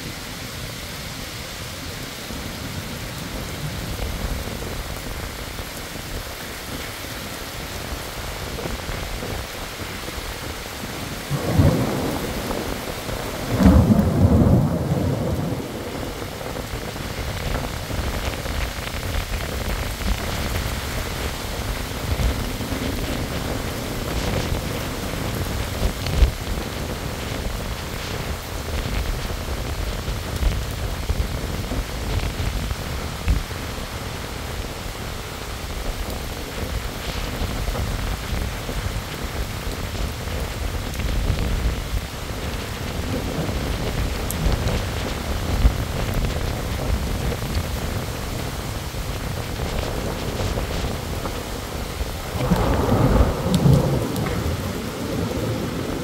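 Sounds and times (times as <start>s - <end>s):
heavy rain on pavement: 0.0s - 56.0s
wind: 0.0s - 56.0s.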